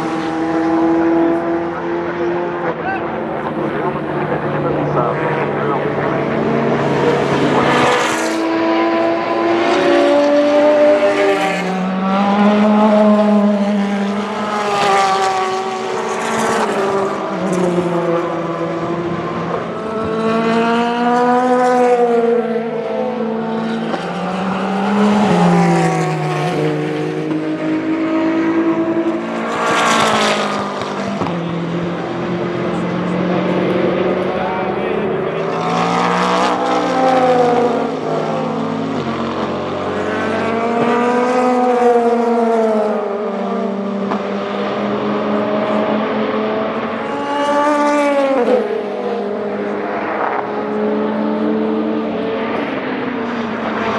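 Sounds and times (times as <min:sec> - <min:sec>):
race cars passing at speed: 0:00.0 - 0:53.9.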